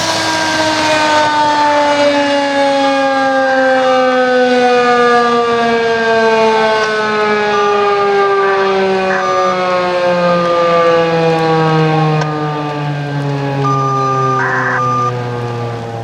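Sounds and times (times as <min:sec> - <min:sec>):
civil defense siren winding down: 0:00.0 - 0:16.0.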